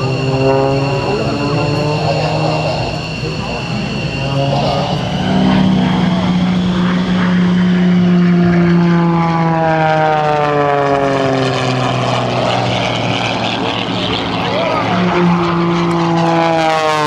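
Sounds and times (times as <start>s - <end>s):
propeller airplanes flying past: 0.0s - 17.0s.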